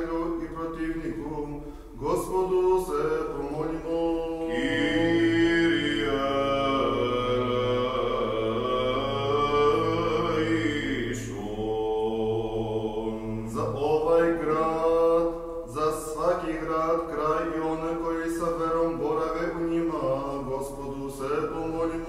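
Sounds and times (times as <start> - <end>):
low voice drone: 0.0 - 22.0
man singing chant: 0.0 - 22.0.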